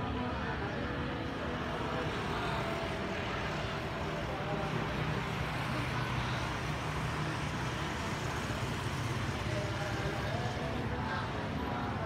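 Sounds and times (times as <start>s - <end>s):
motor scooters passing: 0.0s - 12.0s.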